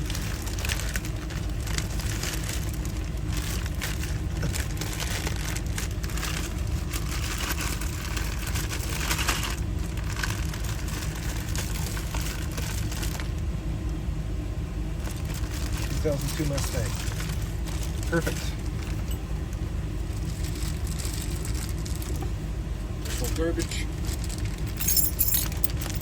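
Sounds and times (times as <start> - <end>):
packaging crinkling and rustling: 0.0 - 13.5, 15.0 - 19.2, 20.0 - 22.3, 24.0 - 26.0
steady low rumble: 0.0 - 26.0.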